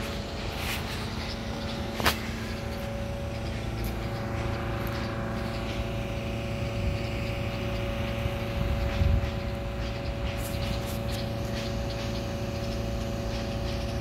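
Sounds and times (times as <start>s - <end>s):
mechanical hum with held tones: 0.0s - 14.0s.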